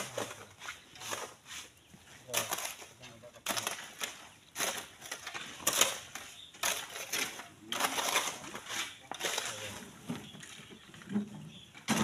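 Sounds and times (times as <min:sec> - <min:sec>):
hand tools scraping sand and gravel: 0:00.0 - 0:11.1.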